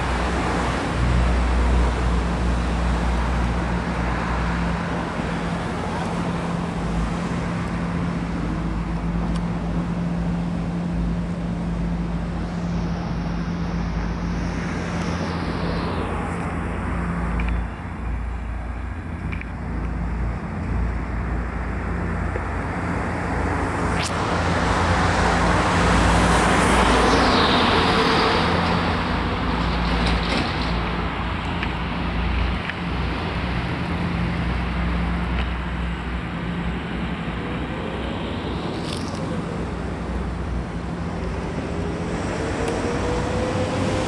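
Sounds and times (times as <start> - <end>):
city traffic noise: 0.0 - 44.0.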